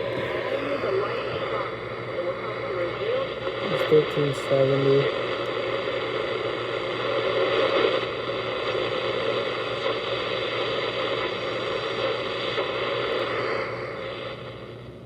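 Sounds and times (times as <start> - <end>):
radio static and hiss: 0.0 - 15.0.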